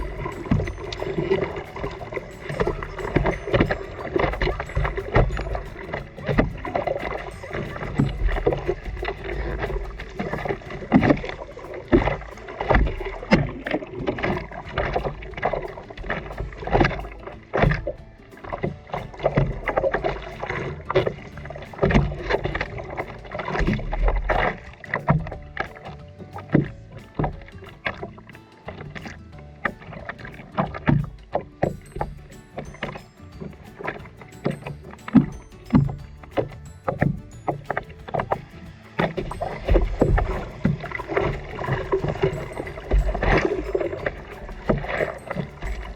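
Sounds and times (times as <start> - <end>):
water splashing around surfboard: 0.0 - 45.9.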